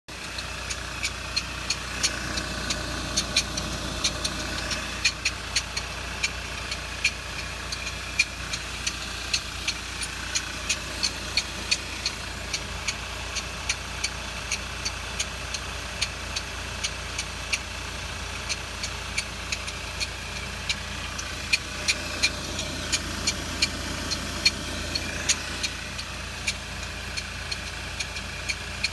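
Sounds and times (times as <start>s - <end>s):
engine running: 0.0s - 28.9s
metallic bearing squeaks: 0.2s - 17.6s, 18.4s - 28.9s.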